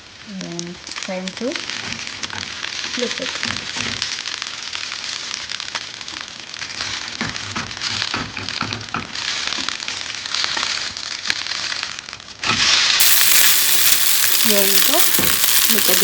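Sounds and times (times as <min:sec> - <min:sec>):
batter sizzling in oil: 0:00.0 - 0:16.0.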